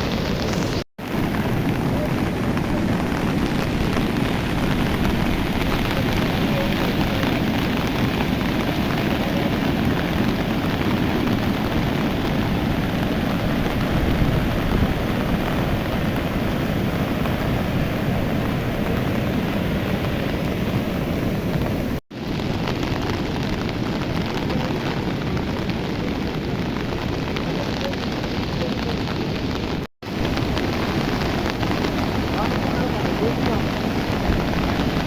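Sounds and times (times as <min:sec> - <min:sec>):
flooded river roaring: 0:00.0 - 0:35.0.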